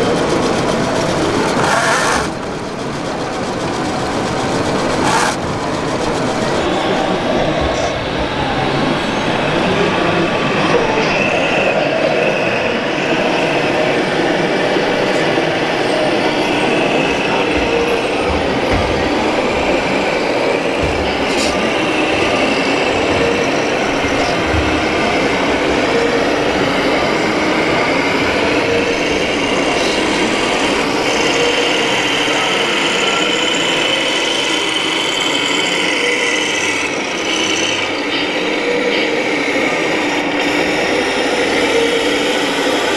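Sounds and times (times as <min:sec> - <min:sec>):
din of a large hall: 0:00.0 - 0:42.9
model trucks running: 0:00.0 - 0:42.9.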